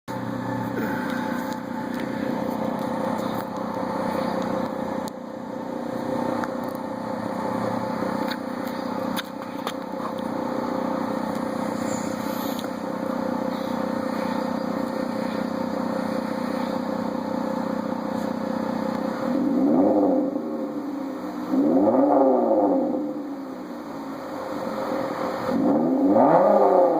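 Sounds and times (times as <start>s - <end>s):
car engine idling and revving: 0.1s - 26.9s.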